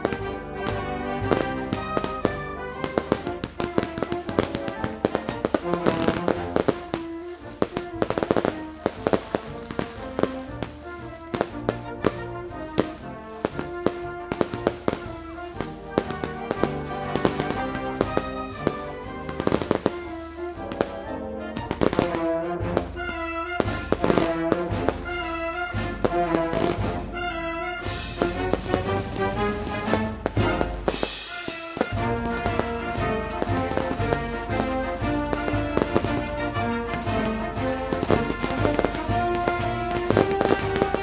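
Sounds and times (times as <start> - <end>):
fireworks bangs and crackles: 0.0 - 41.0
music with held notes: 0.0 - 41.0.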